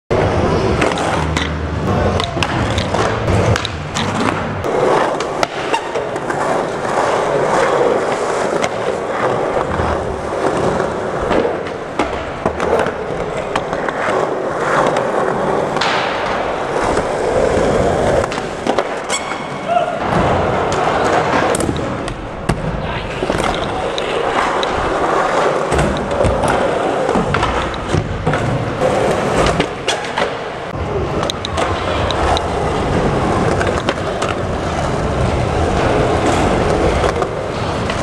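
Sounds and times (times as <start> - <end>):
skateboard clacks: 0.1 - 38.0
skateboard wheels rolling on concrete: 0.1 - 38.0.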